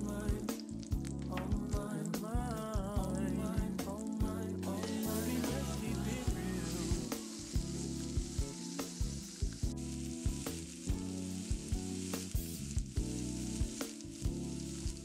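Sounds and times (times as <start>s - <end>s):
meat sizzling in a frying pan: 0.0s - 15.0s
music with a steady beat: 0.0s - 15.0s.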